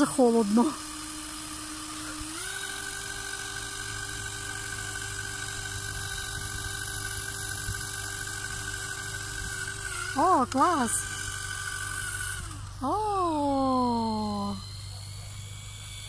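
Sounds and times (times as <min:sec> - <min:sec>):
small motor whining: 0:00.0 - 0:16.0.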